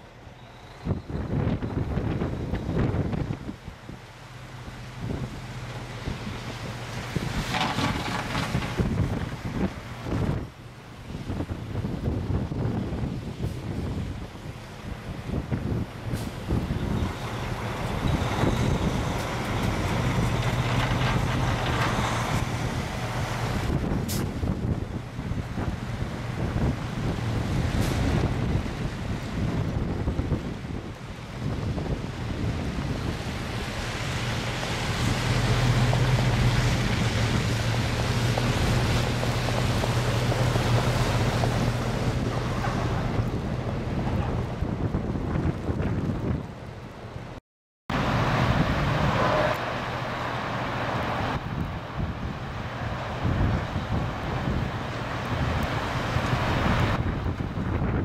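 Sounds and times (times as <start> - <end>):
vehicles hissing through slush: 0.0 - 44.8, 47.9 - 57.3
diesel truck engine humming: 0.0 - 47.3, 47.9 - 58.0
wind buffeting microphone: 0.6 - 58.0.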